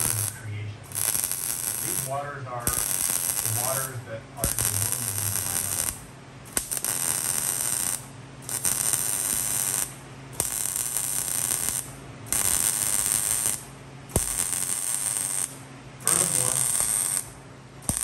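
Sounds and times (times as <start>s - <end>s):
welder arc crackling: 0.0s - 18.0s.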